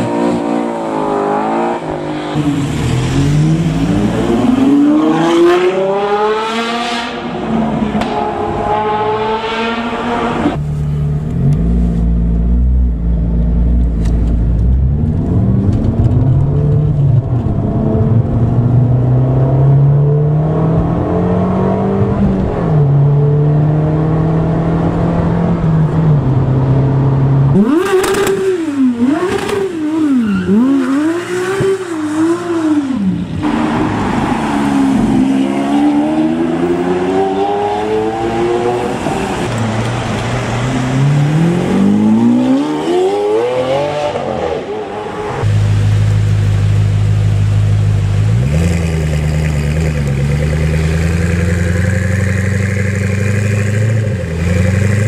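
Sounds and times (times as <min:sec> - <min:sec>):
car engine revving: 0:00.0 - 0:55.0
car engines accelerating hard: 0:00.0 - 0:55.0.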